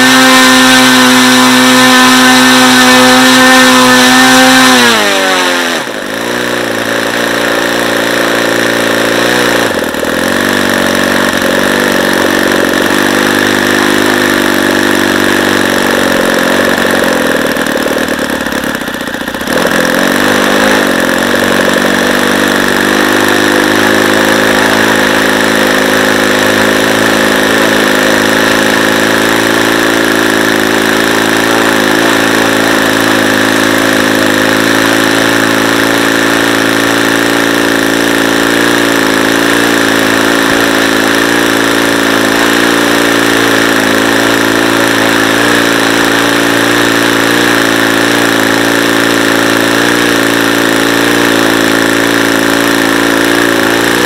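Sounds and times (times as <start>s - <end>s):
model engine running: 0.0s - 54.0s.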